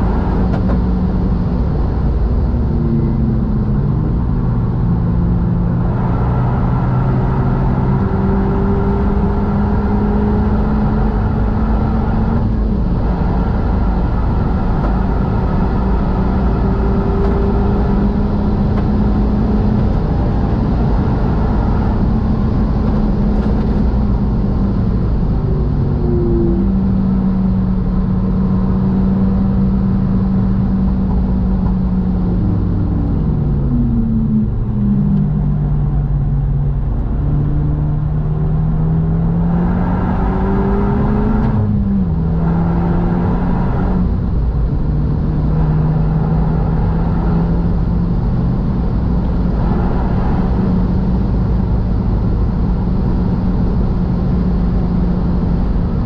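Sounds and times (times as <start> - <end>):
car engine drone: 0.0 - 56.0
road and wind noise: 0.0 - 56.0.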